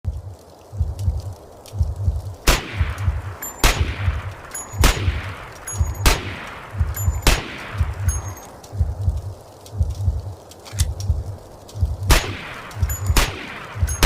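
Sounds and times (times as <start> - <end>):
low pulsing rumble: 0.0 - 14.0.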